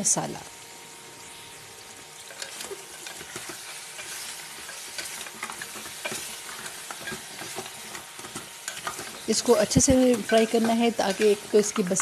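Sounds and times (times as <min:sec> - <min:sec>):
meat sizzling in hot oil: 0:00.0 - 0:12.0
wooden spoon scraping pot: 0:02.3 - 0:12.0.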